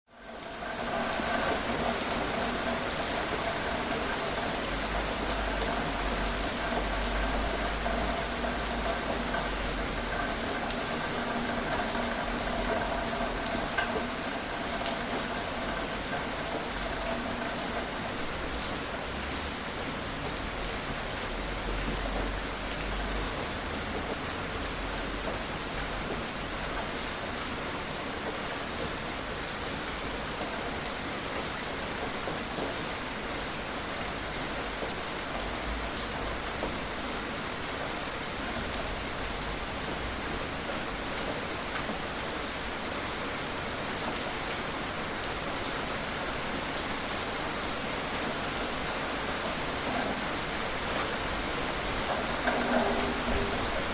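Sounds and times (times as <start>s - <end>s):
gentle rain falling: 0.1s - 53.9s.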